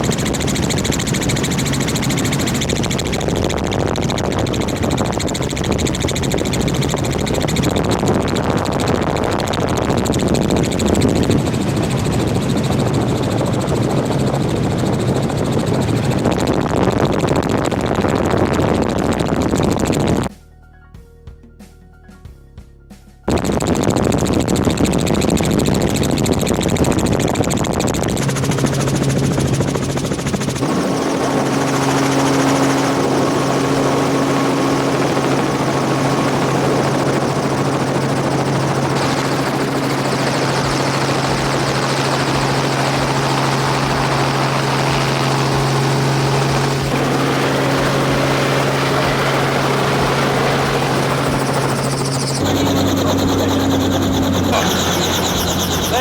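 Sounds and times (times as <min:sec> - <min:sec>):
helicopter engine and rotor drone: 0:00.0 - 0:20.3, 0:23.3 - 0:56.0.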